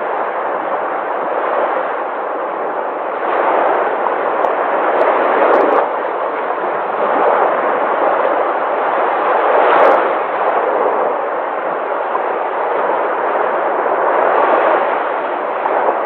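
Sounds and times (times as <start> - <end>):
sea waves breaking: 0.0 - 16.0.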